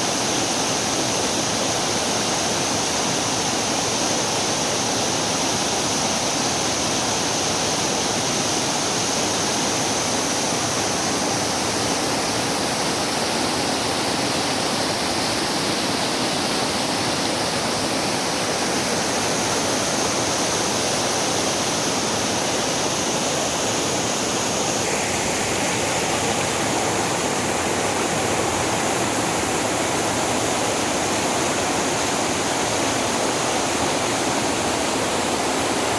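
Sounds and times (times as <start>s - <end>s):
stream rushing over rocks: 0.0s - 35.9s.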